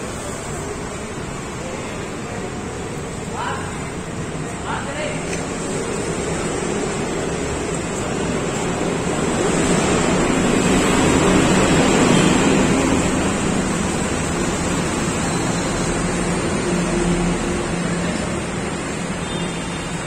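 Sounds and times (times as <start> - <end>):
road traffic roar: 0.0 - 20.0.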